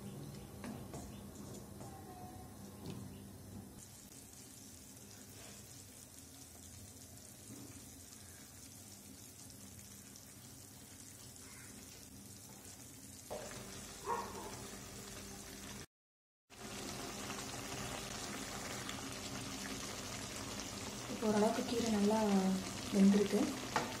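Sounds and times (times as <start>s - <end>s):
pan simmering hiss: 3.8s - 15.9s, 16.5s - 24.0s.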